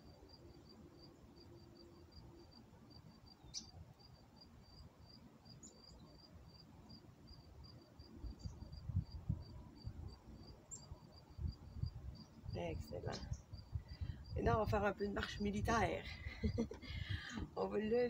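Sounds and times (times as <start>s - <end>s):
cricket chirping: 0.0s - 15.4s, 16.1s - 17.4s.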